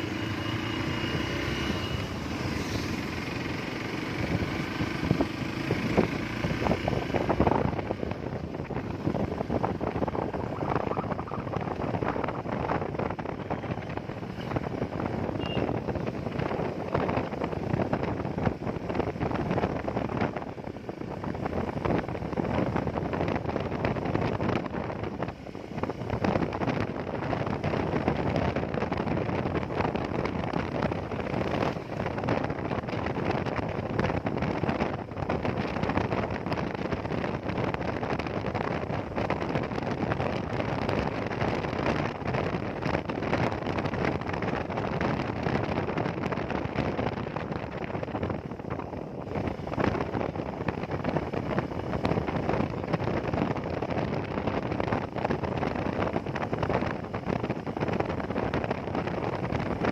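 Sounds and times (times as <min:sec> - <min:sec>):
motorcycle road and engine noise: 0:00.0 - 0:59.9
wind rushing over microphone: 0:00.0 - 0:59.9.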